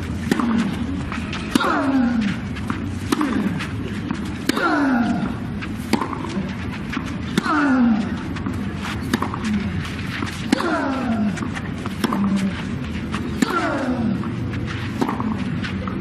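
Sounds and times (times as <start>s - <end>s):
court and crowd noise: 0.0s - 16.0s.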